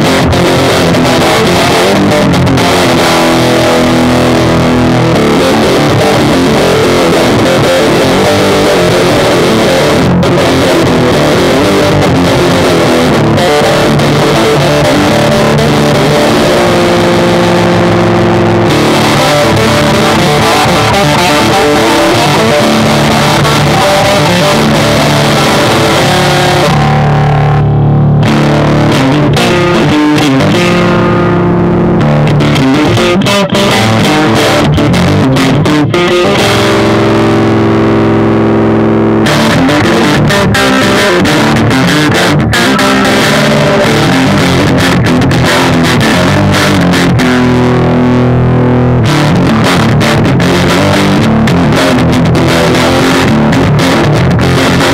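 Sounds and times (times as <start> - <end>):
electric guitar metal riffing: 0.0 - 54.9.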